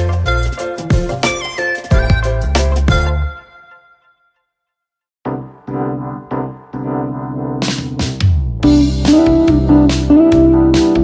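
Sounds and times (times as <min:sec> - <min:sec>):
background music with beat: 0:00.0 - 0:03.7, 0:05.3 - 0:11.0.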